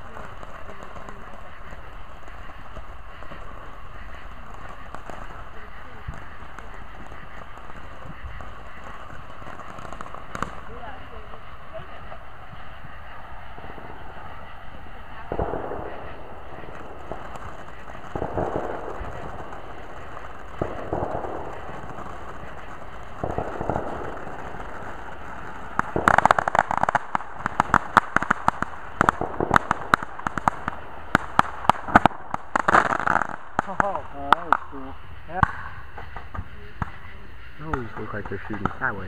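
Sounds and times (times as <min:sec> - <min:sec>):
firework crackling: 0:00.0 - 0:39.0
firework fountain hissing: 0:00.0 - 0:39.0.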